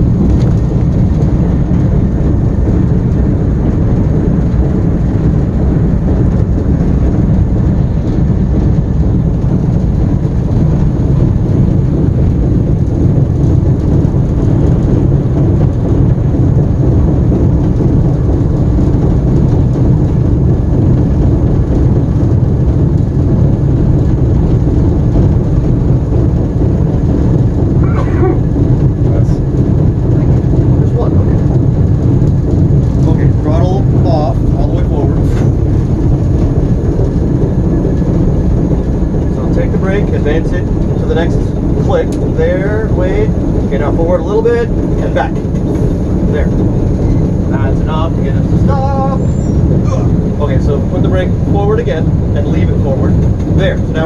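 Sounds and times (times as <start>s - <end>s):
locomotive engine rumbling: 0.0s - 54.0s.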